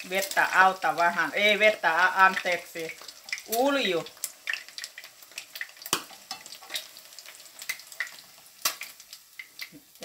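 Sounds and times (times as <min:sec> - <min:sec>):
egg sizzling in hot oil: 0:00.0 - 0:10.0.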